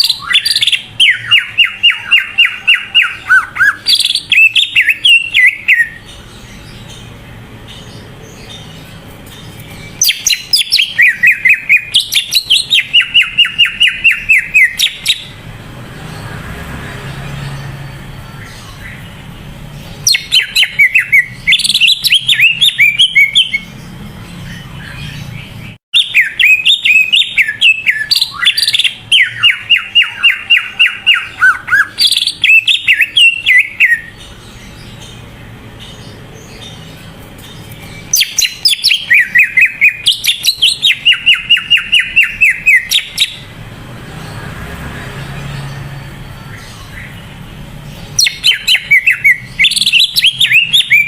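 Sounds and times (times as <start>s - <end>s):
bird singing rapid phrases: 0.0s - 51.0s.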